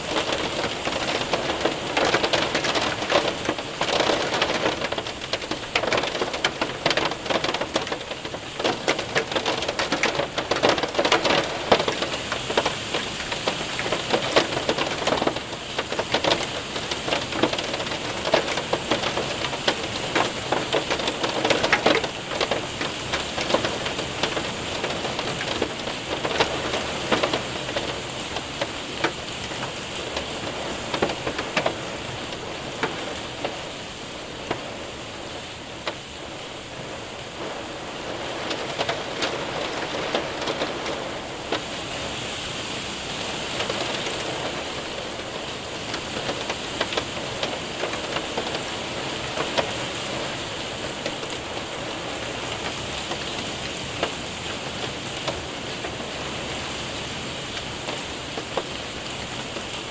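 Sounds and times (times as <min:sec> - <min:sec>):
hailstones ticking on window: 0:00.0 - 0:59.9
rain hissing: 0:00.0 - 0:59.9.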